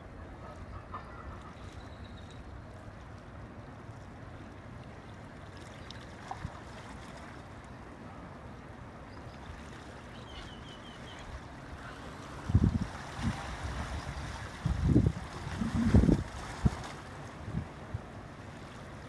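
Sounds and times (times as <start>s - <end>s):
ship low rumble and hiss: 0.0s - 19.0s.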